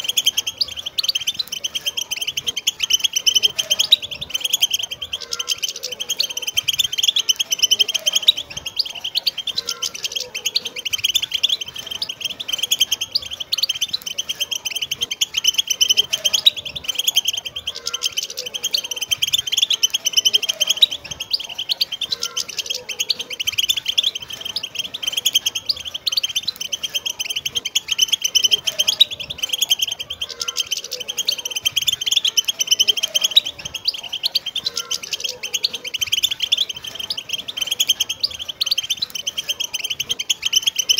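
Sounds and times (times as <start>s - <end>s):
goldfinches twittering: 0.0s - 40.9s.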